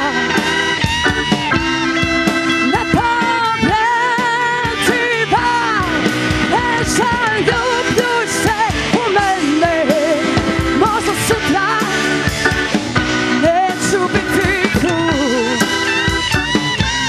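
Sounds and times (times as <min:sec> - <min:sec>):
keyboard melody: 0:00.0 - 0:17.0
live rock band playing: 0:00.0 - 0:17.0.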